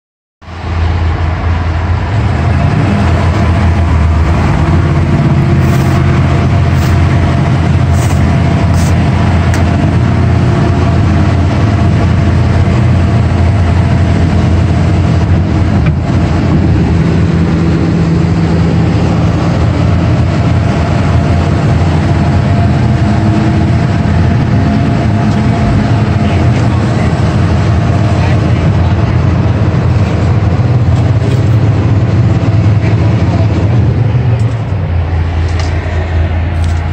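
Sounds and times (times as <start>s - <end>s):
diesel engine droning: 0.4s - 36.9s.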